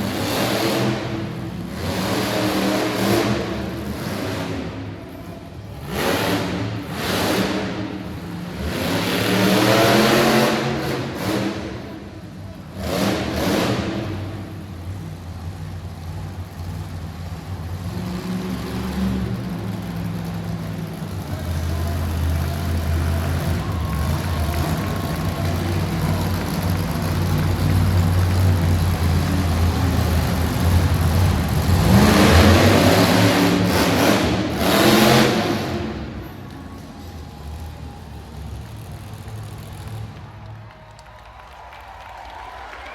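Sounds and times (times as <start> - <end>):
truck engine revving: 0.0 - 40.7.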